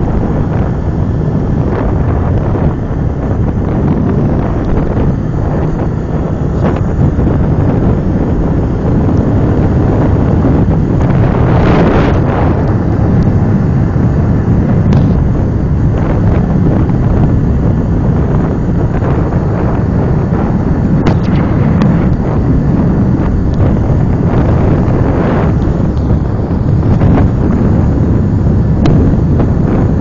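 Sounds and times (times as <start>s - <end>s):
low bike ride noise: 0.0s - 30.0s
wind noise on microphone: 0.0s - 30.0s.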